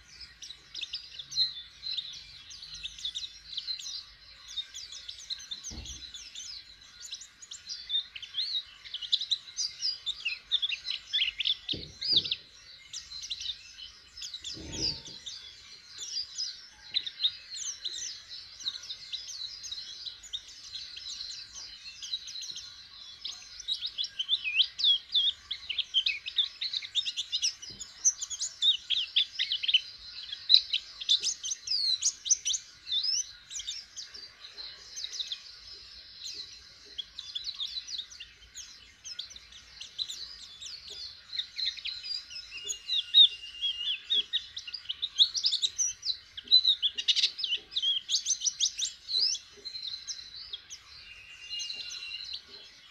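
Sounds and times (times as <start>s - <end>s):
bird chirping and twittering: 0.0s - 52.9s.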